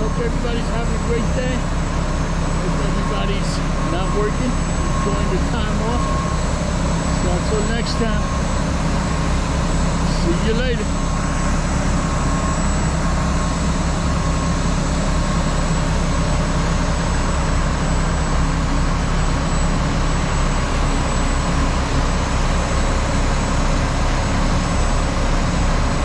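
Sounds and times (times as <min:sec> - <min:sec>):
diesel truck engines idling: 0:00.0 - 0:26.0.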